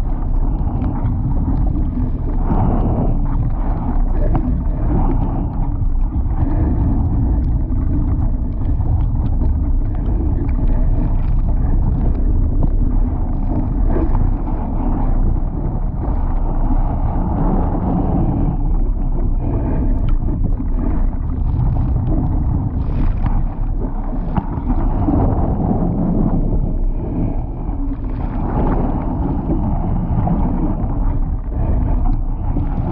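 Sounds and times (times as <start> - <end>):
water rushing along hull: 0.0 - 32.9
wind buffeting microphone: 0.0 - 32.9.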